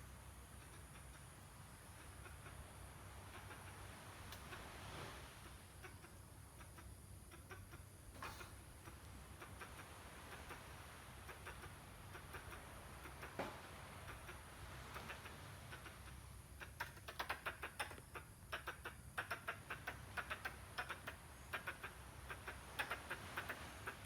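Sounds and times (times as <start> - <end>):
squirrel chattering: 0.4 - 4.6, 5.4 - 24.0.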